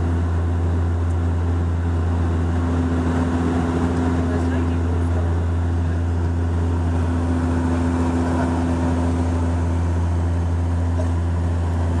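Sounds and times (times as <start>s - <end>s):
airliner cabin drone: 0.0s - 12.0s.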